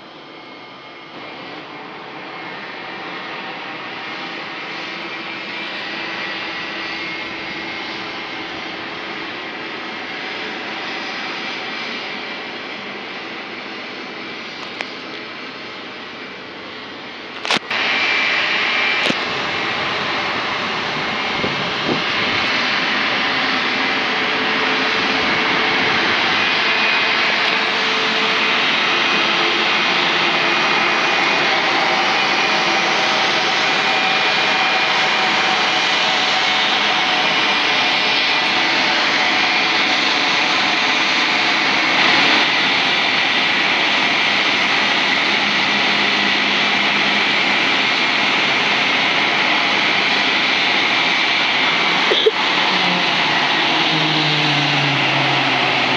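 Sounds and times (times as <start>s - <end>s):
jet engines rushing with high whine: 0.0s - 55.9s.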